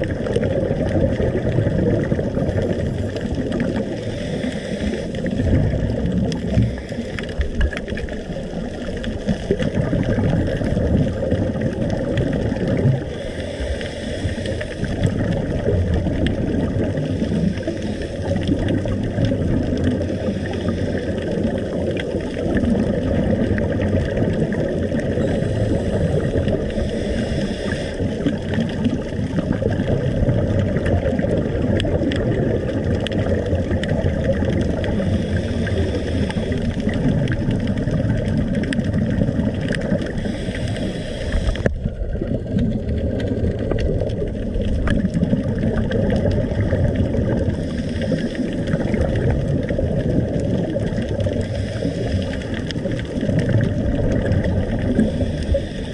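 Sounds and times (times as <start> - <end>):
underwater rumble: 0.0 - 55.9.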